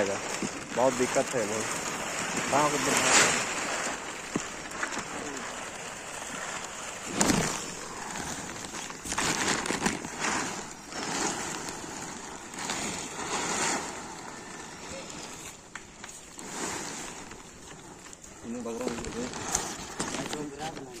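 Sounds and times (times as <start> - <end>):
plastic tarpaulin rustling: 0.0 - 21.0.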